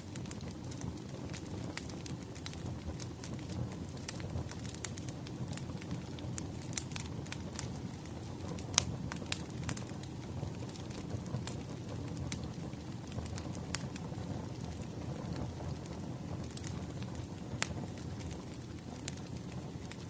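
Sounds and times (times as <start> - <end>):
firewood crackling and popping: 0.0 - 20.0
low rumble of fire: 0.0 - 20.0.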